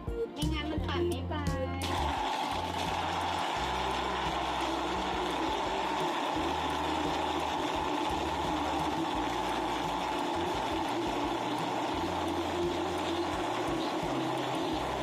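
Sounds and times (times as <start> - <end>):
electric blender running: 1.8 - 15.0.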